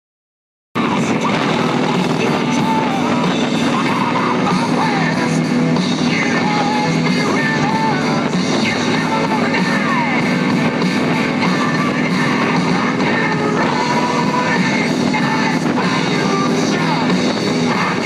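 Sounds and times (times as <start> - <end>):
person singing: 0.8 - 18.0
rock band playing: 0.8 - 18.0.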